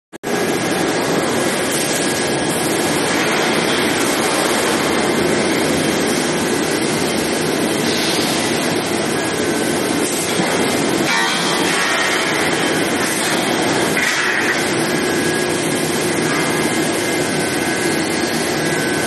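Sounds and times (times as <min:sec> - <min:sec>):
industrial machinery roar: 0:00.2 - 0:19.0.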